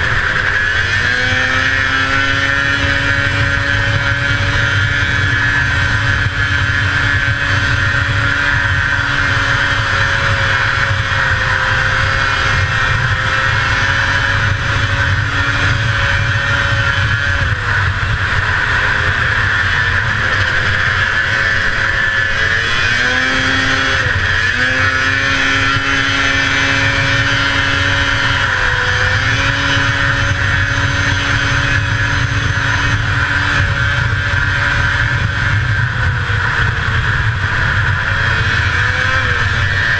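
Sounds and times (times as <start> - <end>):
two-stroke engine running hard: 0.0 - 39.9
wind over microphone: 0.0 - 39.9.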